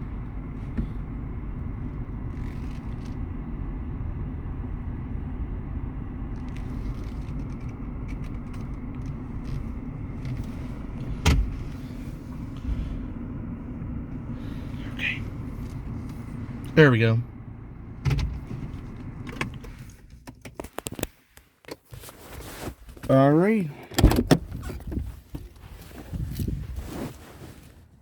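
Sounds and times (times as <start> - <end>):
car rumble: 0.0 - 21.1, 22.8 - 28.0.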